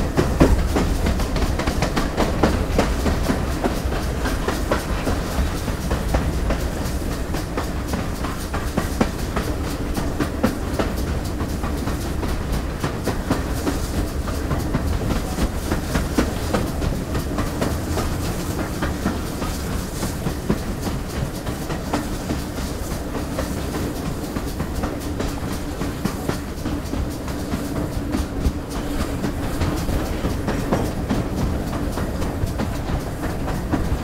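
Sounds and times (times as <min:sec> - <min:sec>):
steam locomotive rumbling: 0:00.0 - 0:34.0
wheels clicking over rail joints: 0:00.0 - 0:34.0.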